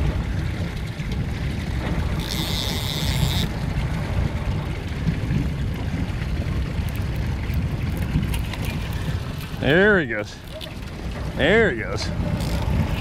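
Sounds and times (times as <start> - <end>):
boat engine running: 0.0 - 13.0
wind on microphone: 0.0 - 13.0.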